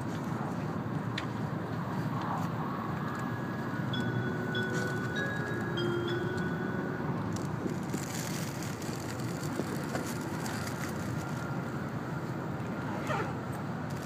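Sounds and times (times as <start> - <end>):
train cabin running noise: 0.0 - 14.0.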